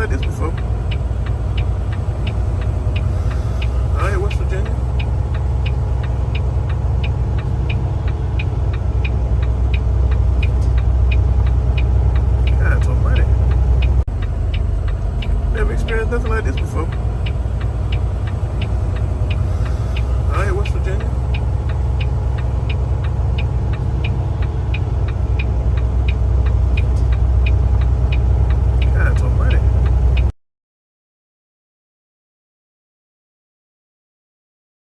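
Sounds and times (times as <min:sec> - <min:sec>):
sharp even ticking: 0:00.0 - 0:29.2
car engine and road rumble: 0:00.0 - 0:30.3.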